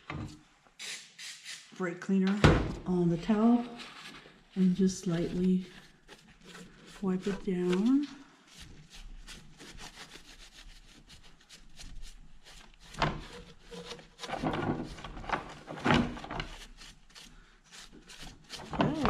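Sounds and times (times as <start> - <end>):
towel rubbing on metal: 3.4 - 19.0.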